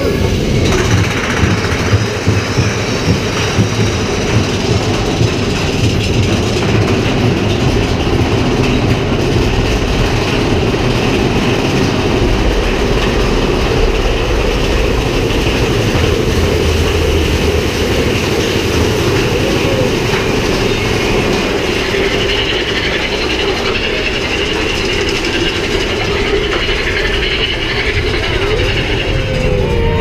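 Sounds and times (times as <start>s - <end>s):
roller coaster cars rumbling: 0.0s - 30.0s.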